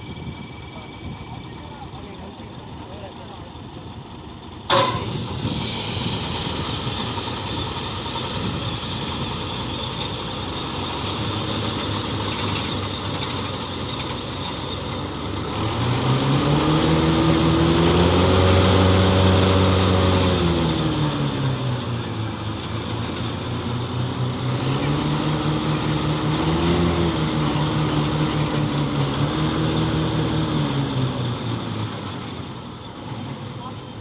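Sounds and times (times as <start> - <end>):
tractor engine revving: 0.0 - 34.0.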